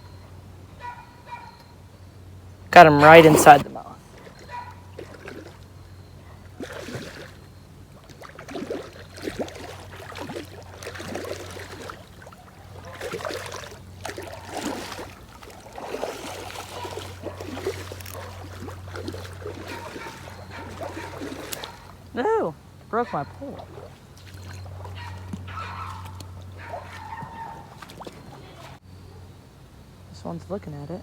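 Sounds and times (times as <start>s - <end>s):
creek water splashing: 2.8s - 28.8s.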